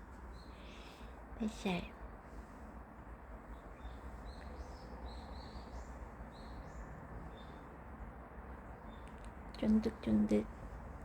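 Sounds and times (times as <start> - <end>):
faint bird chirping: 0.0 - 2.5, 3.3 - 10.6.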